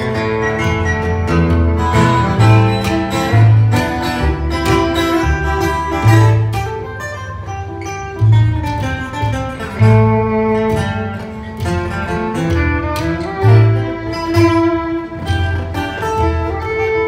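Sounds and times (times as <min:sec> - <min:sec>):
bowed fiddle melody: 0:00.0 - 0:17.0
strummed acoustic guitar: 0:00.0 - 0:17.0
upright bass plucking: 0:00.0 - 0:17.0.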